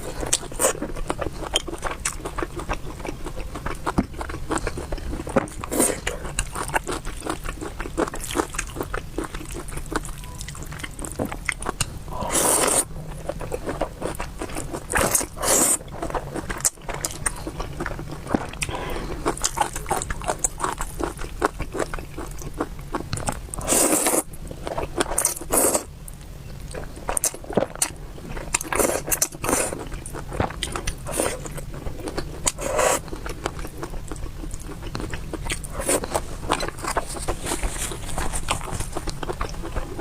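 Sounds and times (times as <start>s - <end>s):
chewing and biting: 0.0s - 25.8s, 26.7s - 40.0s.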